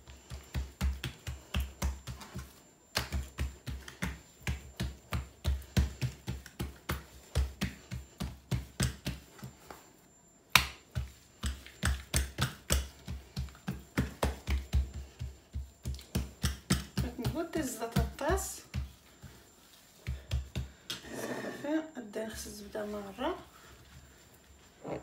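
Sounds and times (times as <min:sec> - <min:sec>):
palms slapping dough: 0:00.0 - 0:21.1.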